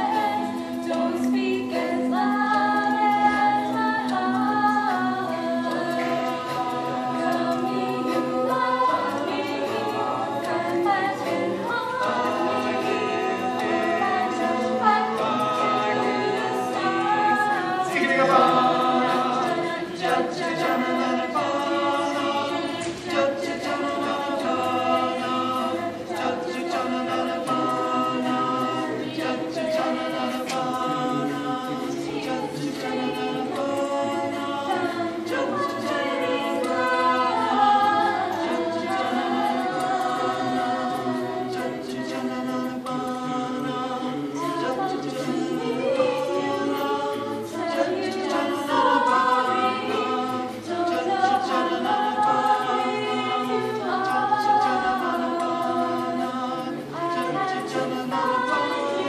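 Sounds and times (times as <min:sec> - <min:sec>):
a cappella group singing in harmony: 0:00.0 - 0:59.0.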